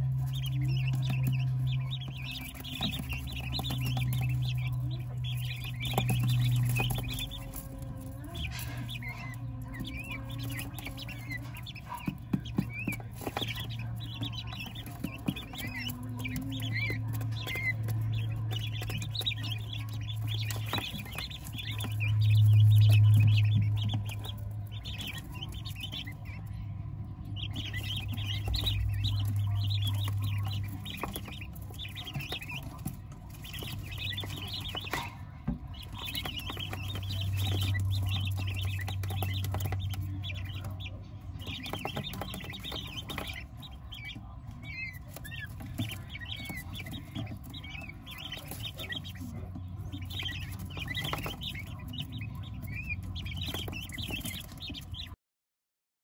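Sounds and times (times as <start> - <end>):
low hum: 0.0 - 55.2
quail chicks peeping: 0.0 - 55.2.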